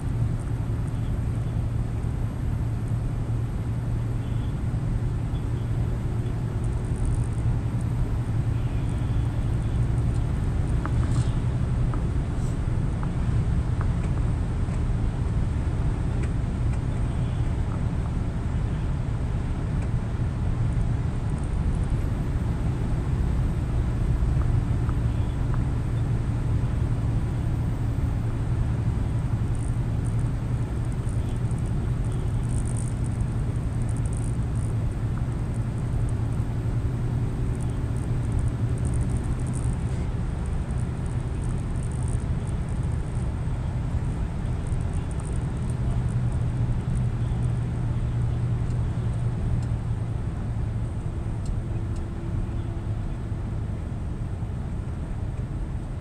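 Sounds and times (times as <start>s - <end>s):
road and tyre noise: 0.0s - 56.0s
truck diesel engine drone: 0.0s - 56.0s.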